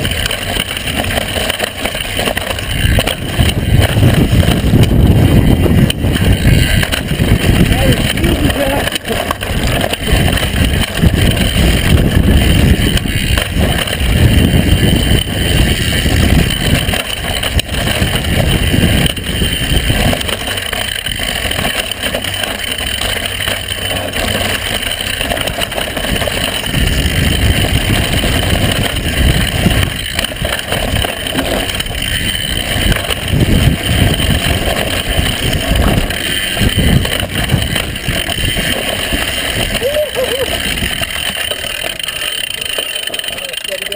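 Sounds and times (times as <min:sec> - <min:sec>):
wind buffeting microphone: 0:00.0 - 0:22.3, 0:25.1 - 0:41.7
bike rattling down dirt trail: 0:00.0 - 0:43.9.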